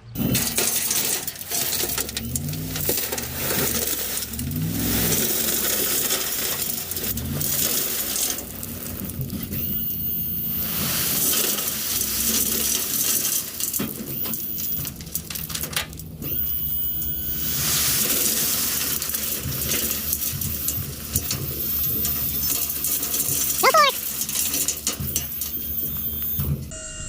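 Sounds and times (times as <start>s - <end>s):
gravel pouring from trailer: 0.0s - 26.6s.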